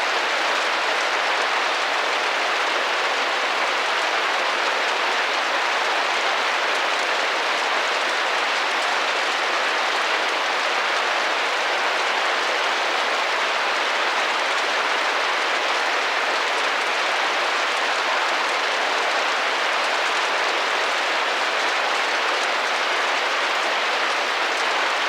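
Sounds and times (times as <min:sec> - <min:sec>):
rain on a glass window: 0:00.0 - 0:25.0.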